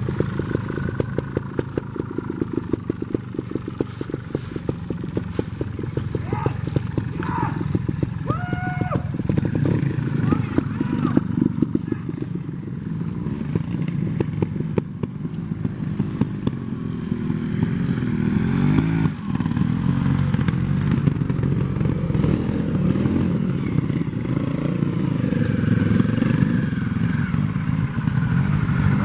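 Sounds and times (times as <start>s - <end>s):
clicks and clatter from bike: 0.0s - 12.4s, 13.0s - 25.3s
motorcycle engine revving: 0.0s - 29.0s.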